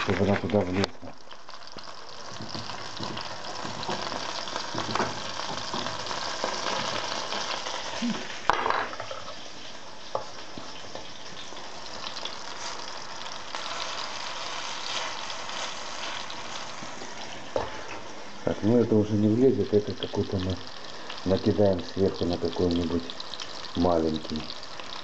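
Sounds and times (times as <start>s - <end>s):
fish cakes sizzling in oil: 0.0s - 25.0s.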